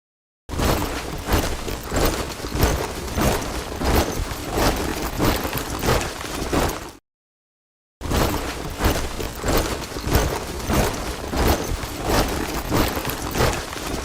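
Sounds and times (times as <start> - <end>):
soldiers marching in step: 0.6 - 7.0, 8.2 - 14.0.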